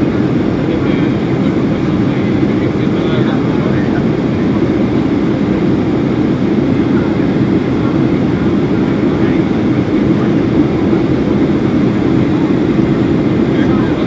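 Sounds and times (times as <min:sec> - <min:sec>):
airplane cabin engine rushing: 0:00.0 - 0:14.0
airstream over fuselage: 0:00.0 - 0:14.0.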